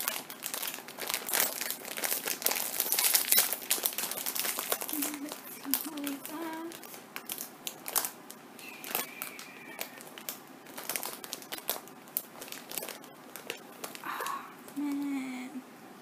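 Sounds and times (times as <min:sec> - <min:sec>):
foil wrapper crinkling: 0:00.0 - 0:14.4.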